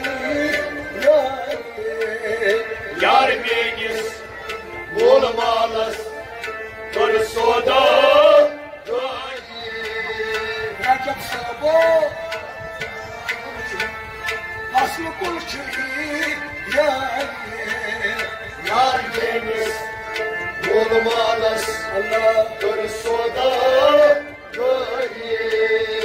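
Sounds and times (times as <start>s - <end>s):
harmonium drone and melody: 0.0s - 26.0s.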